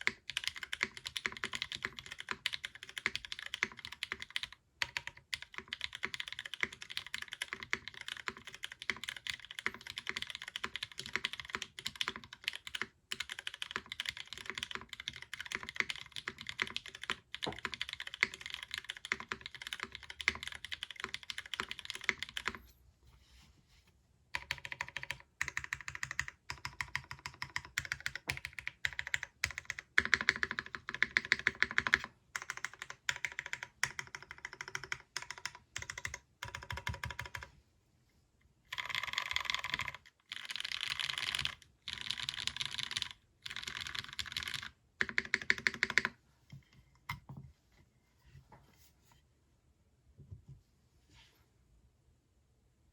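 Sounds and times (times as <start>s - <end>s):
typing on mechanical keyboard: 0.0s - 22.6s, 24.4s - 37.5s, 38.7s - 46.1s.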